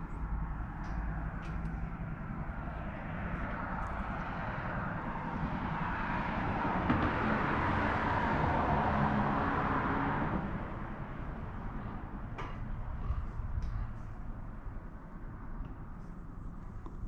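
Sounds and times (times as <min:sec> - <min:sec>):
steady low rumble: 0:00.0 - 0:08.7, 0:09.7 - 0:17.0.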